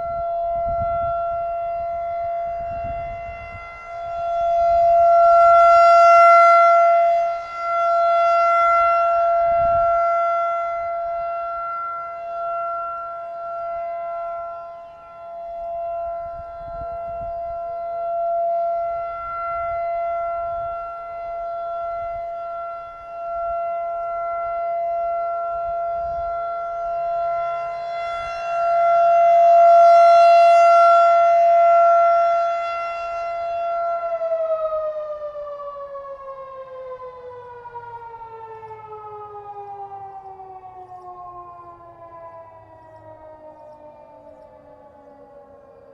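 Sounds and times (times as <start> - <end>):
warning siren steady tone: 0.0 - 45.9.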